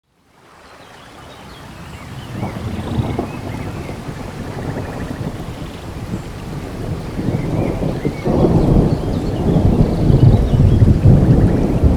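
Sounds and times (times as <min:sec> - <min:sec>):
rain in a forest: 0:00.0 - 0:11.9
low rumble of thunder: 0:01.9 - 0:11.9.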